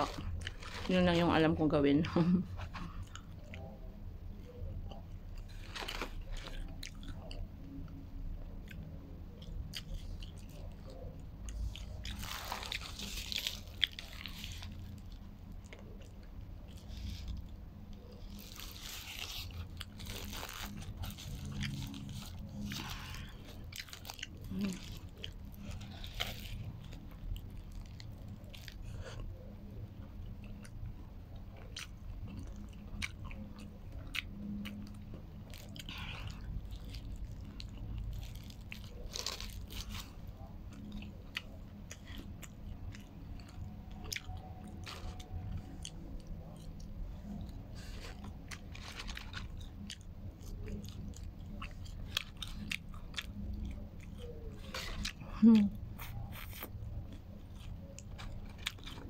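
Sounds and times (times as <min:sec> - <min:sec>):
biting and chewing: 0:00.0 - 0:59.0.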